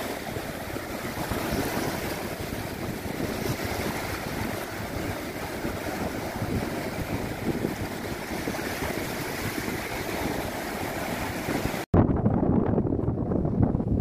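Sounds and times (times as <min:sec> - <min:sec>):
sea surf breaking over rocks: 0:00.0 - 0:11.9
wind buffeting microphone: 0:00.0 - 0:14.0.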